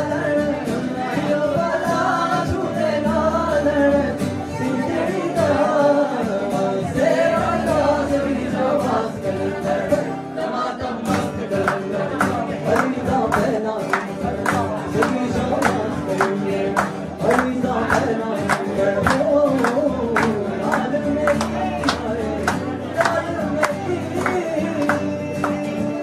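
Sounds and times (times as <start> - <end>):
acoustic guitar strumming: 0.0 - 26.0
people singing: 0.0 - 26.0.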